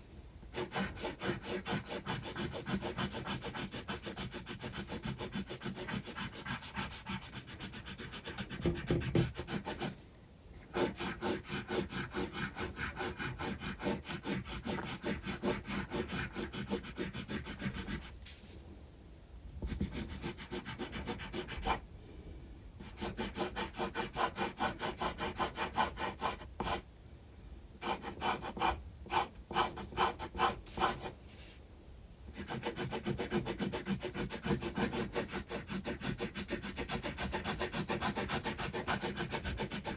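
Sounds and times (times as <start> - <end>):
pencil scratching on paper: 0.5 - 10.0, 10.6 - 18.1, 19.6 - 21.8, 22.8 - 26.8, 27.8 - 31.2, 32.3 - 39.9.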